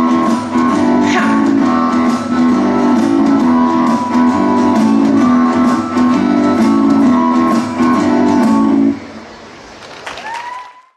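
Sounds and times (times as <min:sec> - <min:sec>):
pop rock guitar backing track: 0:00.0 - 0:09.0.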